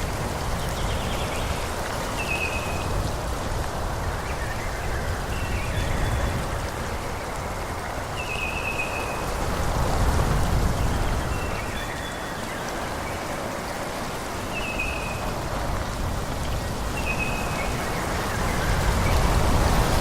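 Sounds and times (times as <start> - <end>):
wind rustling through trees: 0.0 - 20.0.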